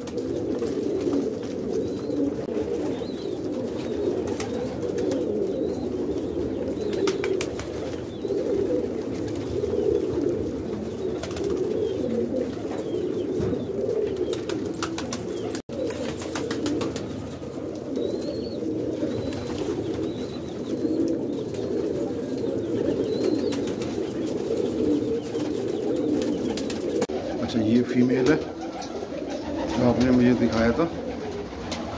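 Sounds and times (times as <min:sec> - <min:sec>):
pigeons cooing: 0:00.0 - 0:31.9.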